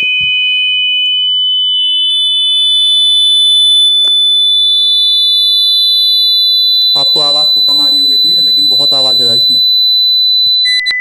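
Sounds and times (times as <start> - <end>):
high-pitched steady tone: 1.8 - 11.0.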